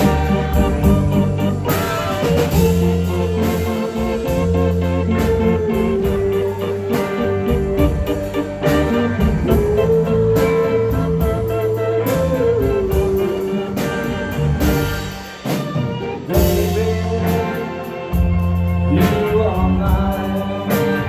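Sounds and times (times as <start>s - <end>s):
lead guitar sliding notes: 0.0s - 20.6s
bass: 0.0s - 21.0s
drums: 0.0s - 21.0s.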